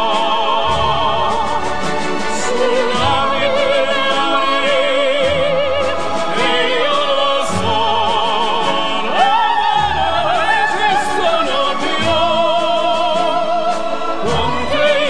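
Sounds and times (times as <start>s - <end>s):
full musical backing: 0.0s - 15.0s
operatic singing with vibrato: 0.0s - 15.0s.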